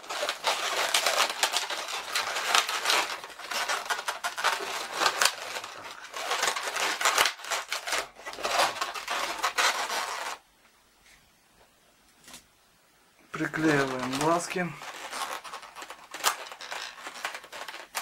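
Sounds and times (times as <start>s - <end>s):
balloons rubbing and squeaking: 0.0s - 10.4s, 13.4s - 18.0s.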